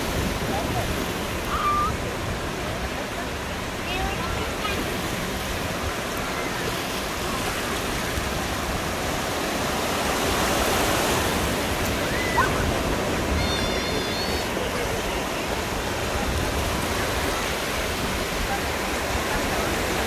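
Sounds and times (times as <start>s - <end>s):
ocean waves washing up beach: 0.0s - 20.0s.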